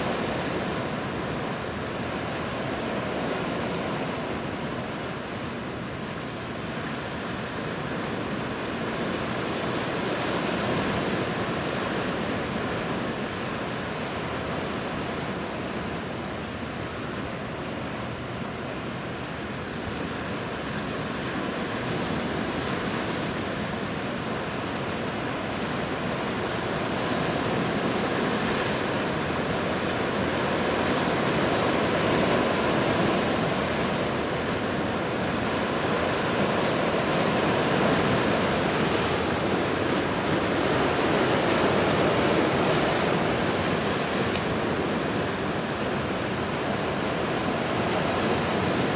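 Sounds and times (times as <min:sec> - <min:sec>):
sea waves washing on shore: 0:00.0 - 0:48.9.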